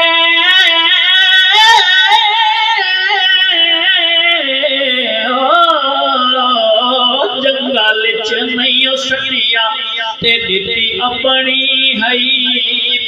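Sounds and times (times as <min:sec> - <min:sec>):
man singing over loudspeakers: 0:00.0 - 0:13.0.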